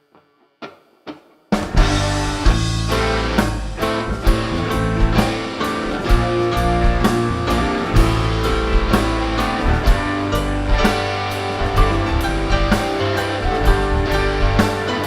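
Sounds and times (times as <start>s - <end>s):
guitar: 0.0s - 15.0s
drum kit beat: 1.5s - 15.0s
bass guitar: 1.6s - 15.0s.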